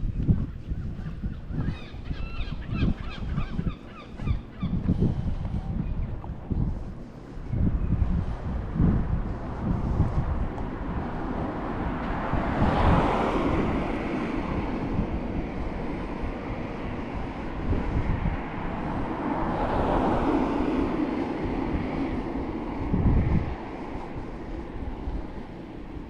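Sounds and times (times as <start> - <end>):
wind buffeting microphone: 0.0 - 26.0
outdoor rushing noise: 4.8 - 26.0.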